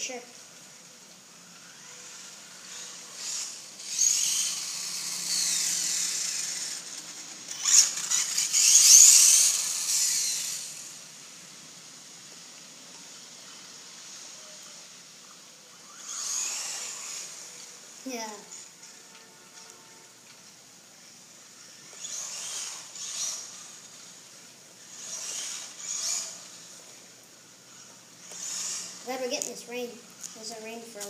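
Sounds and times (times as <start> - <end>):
toy car electric motor whining: 0.0 - 11.7, 12.9 - 20.4, 21.4 - 31.0.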